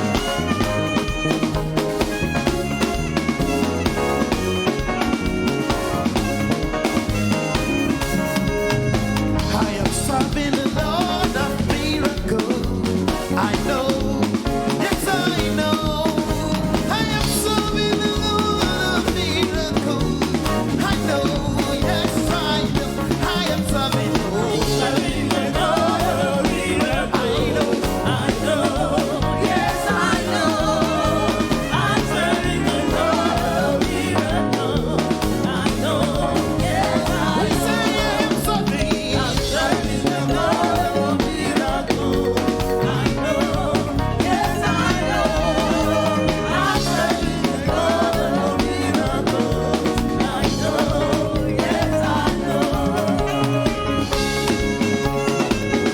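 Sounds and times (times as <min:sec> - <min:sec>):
band with drums bass and guitar: 0:00.0 - 0:55.9
gospel singers: 0:00.0 - 0:55.9.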